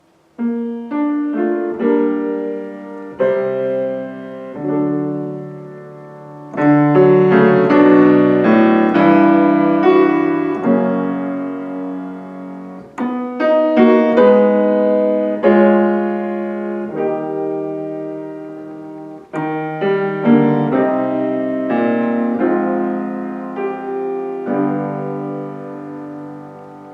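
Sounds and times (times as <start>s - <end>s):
piano chords and melody: 0.0s - 26.9s.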